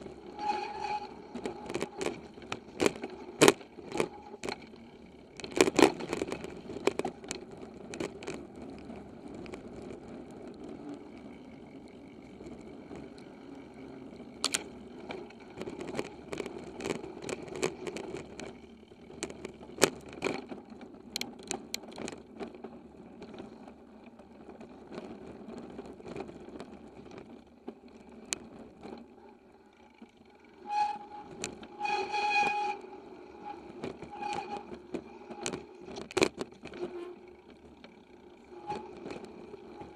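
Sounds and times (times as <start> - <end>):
bike rattling over bumps: 0.0 - 39.9
bike tyre rumble: 0.0 - 39.9.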